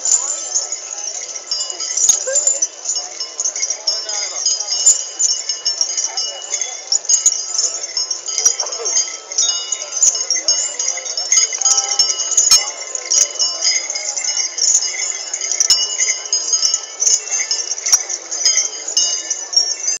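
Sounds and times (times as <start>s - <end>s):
background voices: 0.0s - 20.0s
metal bells jingling and clanking: 0.0s - 20.0s.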